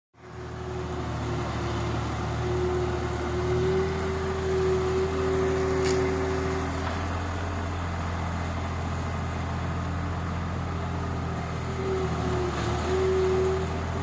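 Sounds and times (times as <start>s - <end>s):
engine drone with whine: 0.2s - 14.0s.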